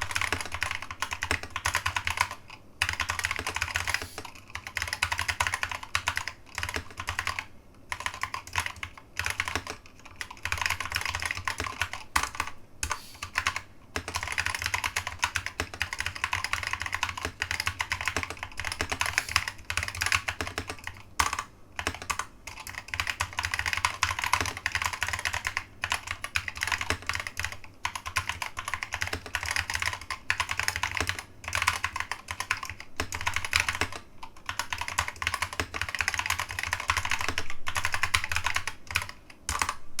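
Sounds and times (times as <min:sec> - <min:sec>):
keyboard typing: 0:00.0 - 0:40.0.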